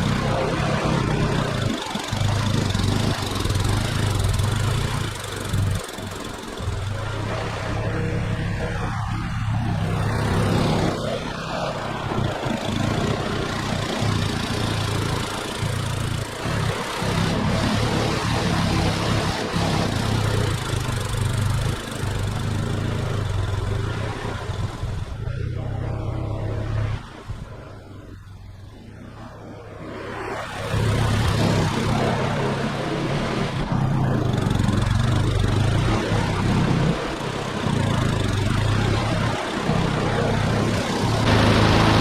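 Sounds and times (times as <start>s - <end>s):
rushing noise: 0.0s - 42.0s
snowblower engine running: 0.0s - 42.0s.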